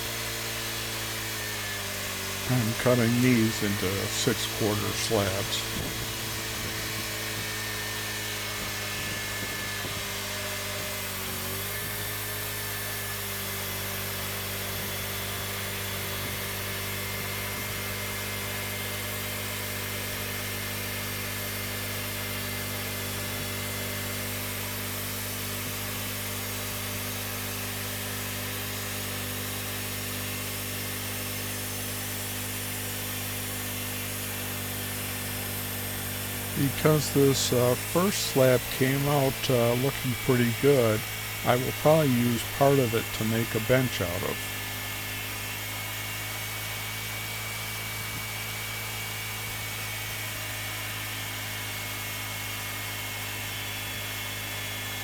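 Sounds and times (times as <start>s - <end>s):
band sawmill sawing log: 0.0s - 51.9s.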